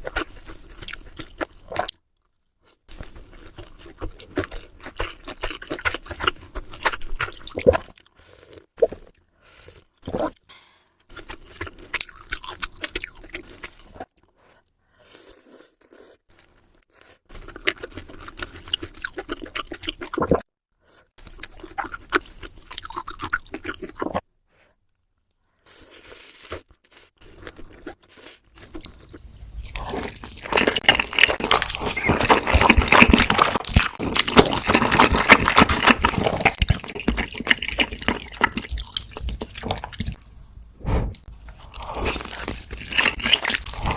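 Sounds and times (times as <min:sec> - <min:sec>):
crunchy chewing and biting: 0:02.9 - 0:09.2, 0:11.1 - 0:14.1, 0:15.1 - 0:20.4, 0:21.2 - 0:24.2, 0:26.1 - 0:43.9.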